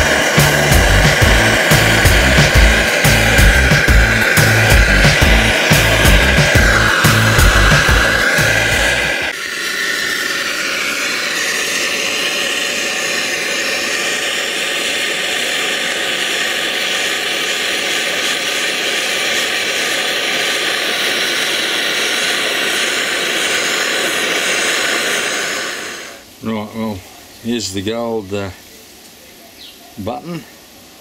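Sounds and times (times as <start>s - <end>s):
gas torch hissing: 0.0s - 28.6s.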